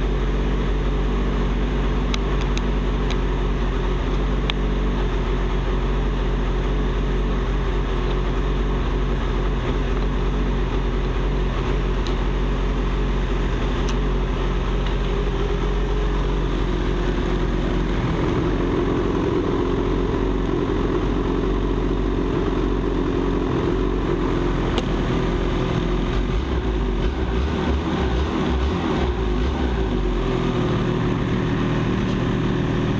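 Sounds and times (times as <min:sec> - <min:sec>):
snowmobile engine idling: 0:00.0 - 0:32.9.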